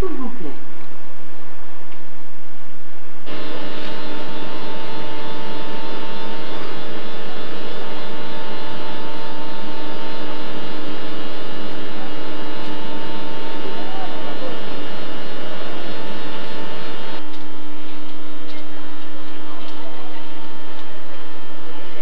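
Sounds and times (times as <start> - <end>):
electric locomotive whine: 2.4 - 22.0
rushing equipment noise: 3.2 - 22.0.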